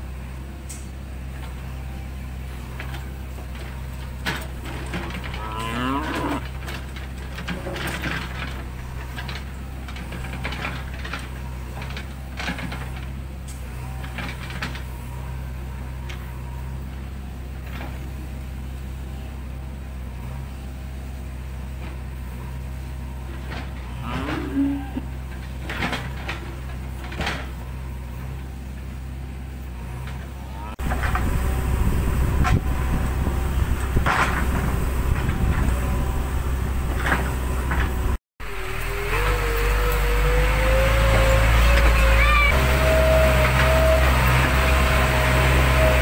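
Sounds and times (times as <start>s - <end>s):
diesel engine running: 0.0s - 46.0s
metal arm and bucket clanking: 0.6s - 46.0s.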